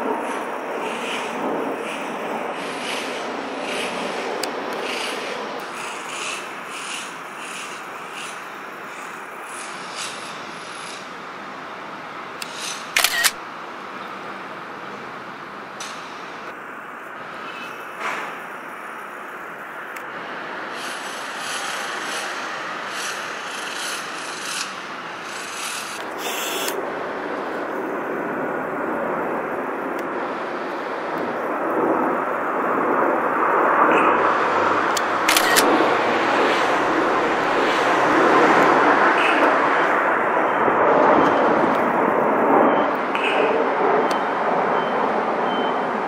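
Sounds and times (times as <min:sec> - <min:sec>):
jet fighters passing overhead: 0:00.0 - 0:46.0.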